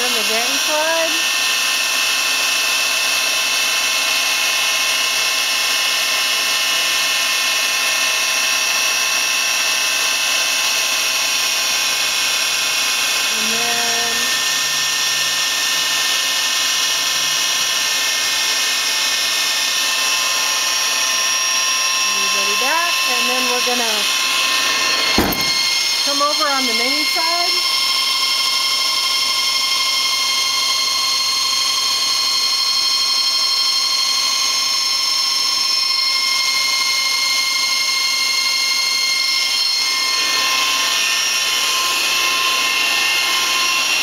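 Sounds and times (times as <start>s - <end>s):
lathe spindle high-pitched whine: 0.0s - 44.0s
lower machine axis whine: 0.0s - 44.0s.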